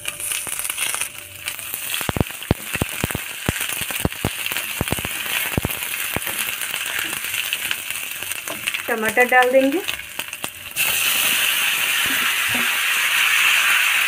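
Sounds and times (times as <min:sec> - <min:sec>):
spices sizzling in hot oil: 0:00.0 - 0:14.0.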